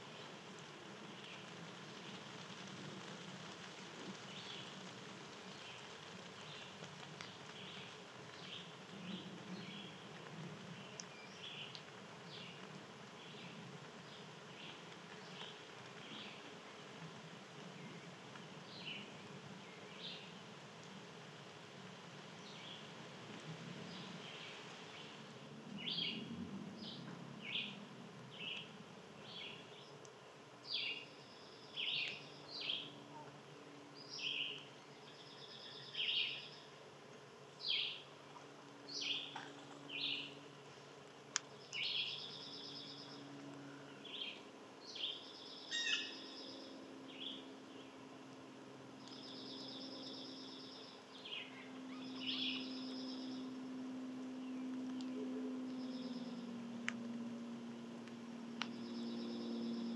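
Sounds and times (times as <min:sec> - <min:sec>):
songbird chirps: 0:00.0 - 0:21.0, 0:22.3 - 0:59.9.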